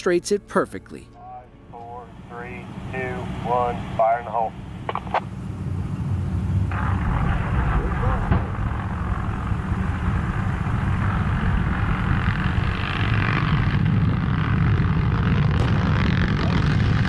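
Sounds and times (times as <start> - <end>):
blast rumbling: 1.7 - 17.0.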